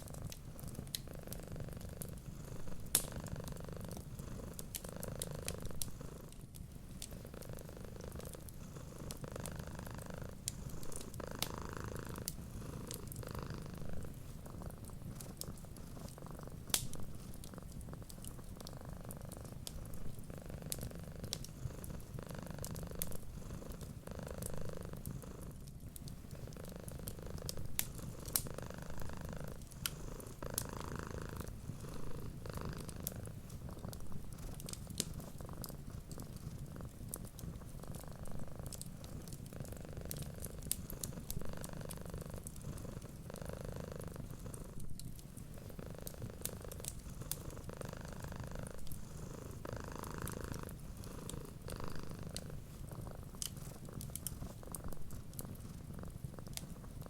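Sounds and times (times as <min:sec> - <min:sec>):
wood fire crackling: 0:00.0 - 0:43.3, 0:43.9 - 0:57.0
cat purring: 0:00.0 - 0:57.0.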